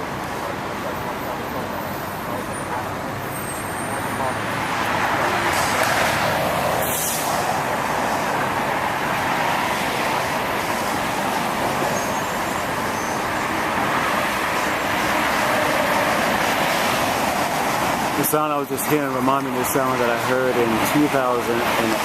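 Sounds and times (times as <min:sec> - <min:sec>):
steady roar from sky: 0:00.0 - 0:22.0.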